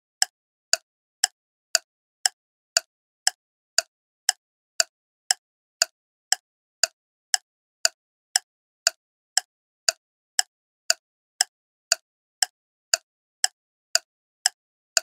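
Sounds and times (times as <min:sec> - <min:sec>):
clock ticking: 0:00.2 - 0:15.0.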